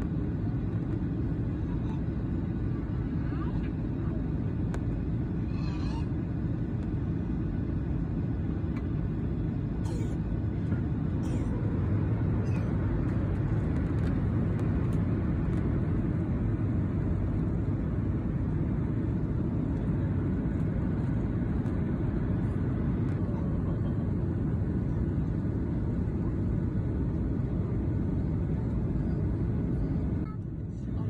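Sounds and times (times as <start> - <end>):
airliner cabin noise: 0.0 - 31.0.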